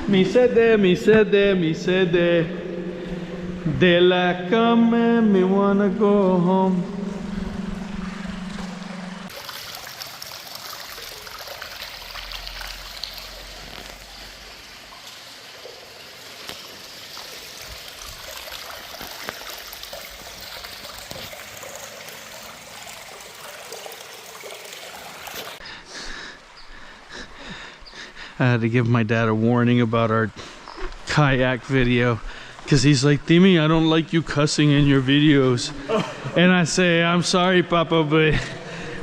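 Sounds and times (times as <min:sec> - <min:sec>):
creek trickling and bubbling: 0:06.2 - 0:37.5.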